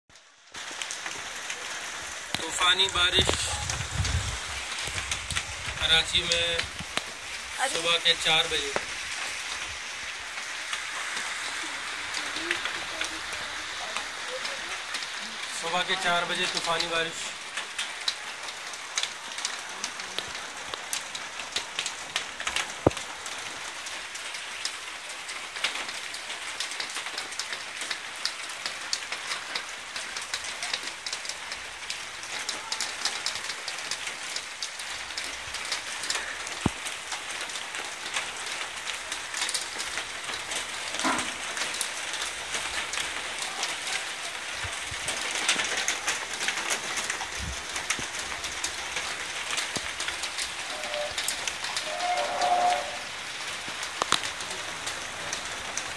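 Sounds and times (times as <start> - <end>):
heavy rain on pavement: 0.1 - 55.9
raindrops ticking close by: 0.1 - 55.9.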